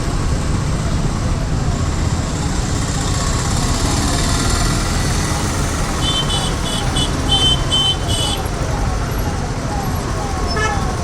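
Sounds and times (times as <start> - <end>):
engines running: 0.0 - 11.0
road traffic rumble: 0.0 - 11.0.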